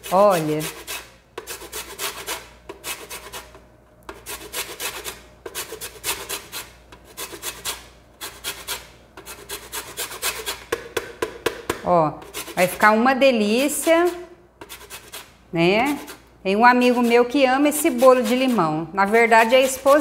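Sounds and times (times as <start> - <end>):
grating on metal grater: 0.0 - 3.5, 4.1 - 10.7, 12.2 - 20.0.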